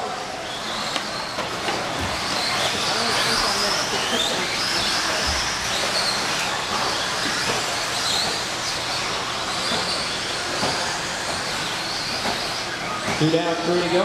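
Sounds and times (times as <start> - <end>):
electric motors whining: 0.0 - 14.0
tyre and track noise: 0.4 - 14.0.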